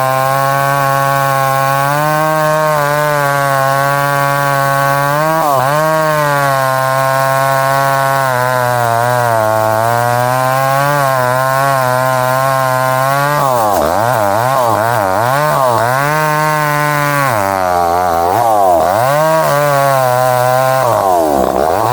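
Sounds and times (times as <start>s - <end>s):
chainsaw cutting tree trunk: 0.0s - 21.9s.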